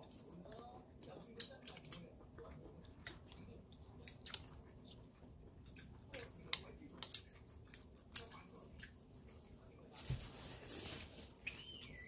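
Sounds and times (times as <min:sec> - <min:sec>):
person chewing noodles: 0:00.0 - 0:09.7.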